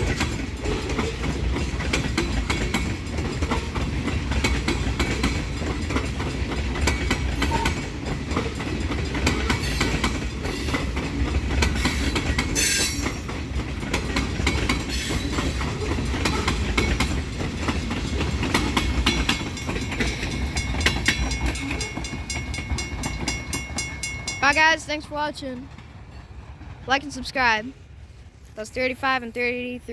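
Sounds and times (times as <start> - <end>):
train wheels clacking over rail joints: 0.0 - 27.6
train rumble: 0.0 - 29.9.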